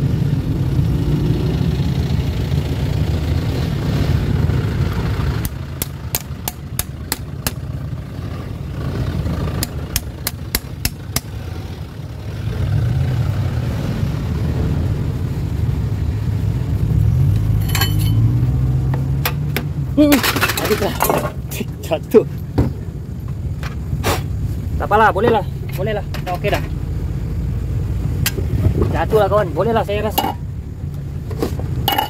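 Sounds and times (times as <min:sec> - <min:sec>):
engine running low rumble: 0:00.0 - 0:32.0.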